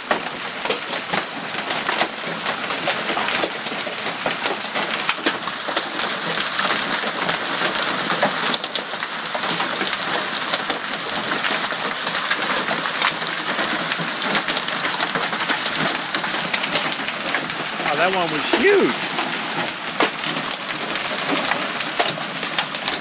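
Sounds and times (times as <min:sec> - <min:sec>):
hailstones clicking and pinging: 0:00.0 - 0:23.0
heavy rain patter: 0:00.0 - 0:23.0.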